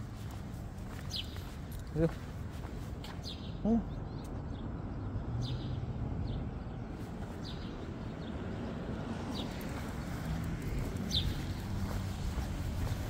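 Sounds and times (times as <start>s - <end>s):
bird chirping: 0.9s - 13.0s.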